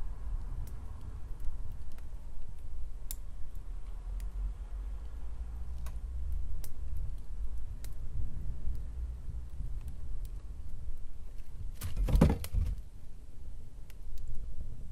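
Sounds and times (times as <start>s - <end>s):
fire crackling with pops: 0.0s - 14.9s
low fire rumble: 0.0s - 14.9s.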